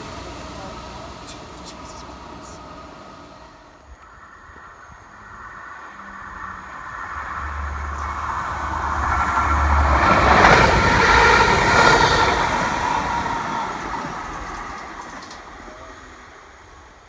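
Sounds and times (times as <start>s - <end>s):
train engine drone: 0.0s - 17.0s
train wheel and rail noise: 0.0s - 17.0s.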